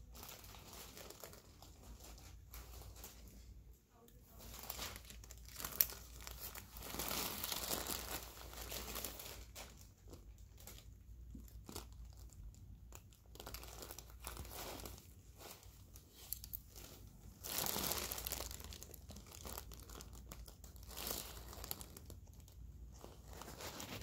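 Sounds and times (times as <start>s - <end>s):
paper cover crinkling: 0.0s - 3.6s, 4.3s - 24.0s.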